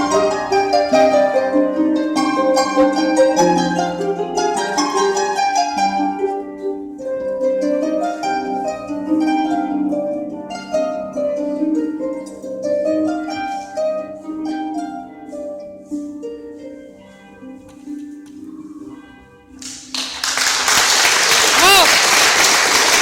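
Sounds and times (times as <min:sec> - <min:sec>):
harps playing plucked notes: 0:00.0 - 0:20.4.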